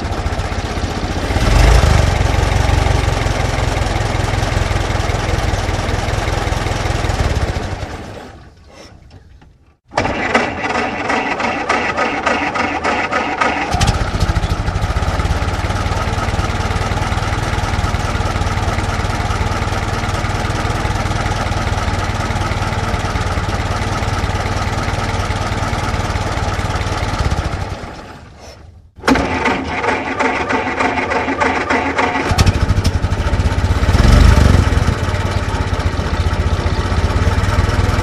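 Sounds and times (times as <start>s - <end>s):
car engine cranking and idling: 0.0s - 38.0s
second engine starting: 0.0s - 38.0s.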